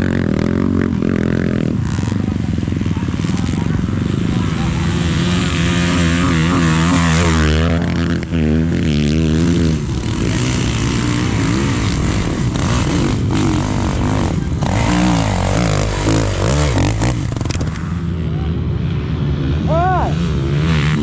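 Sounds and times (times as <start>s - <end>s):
off-road vehicle engines revving: 0.0s - 21.0s.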